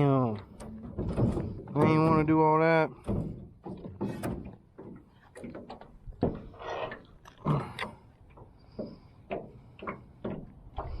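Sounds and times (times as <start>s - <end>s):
knocks and rattles in a boat: 0.0s - 7.0s, 7.9s - 11.0s.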